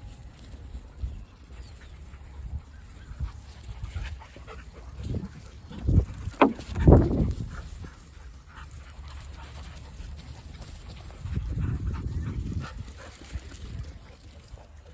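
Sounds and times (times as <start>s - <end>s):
dogs panting: 1.4s - 14.9s.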